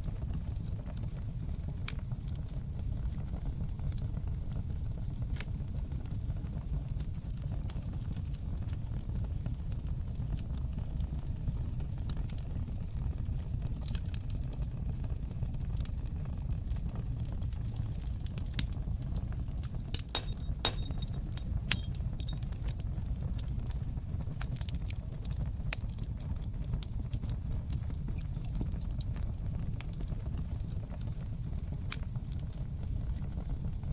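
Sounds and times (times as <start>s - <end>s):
wood fire burning: 0.0s - 33.9s.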